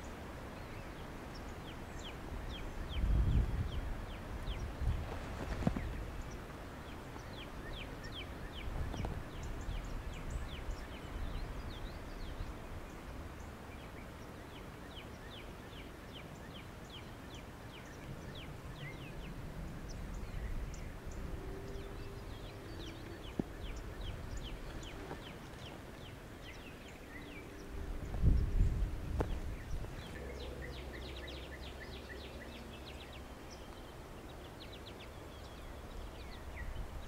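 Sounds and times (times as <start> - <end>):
wind buffeting microphone: 0.0 - 15.0, 17.8 - 33.0.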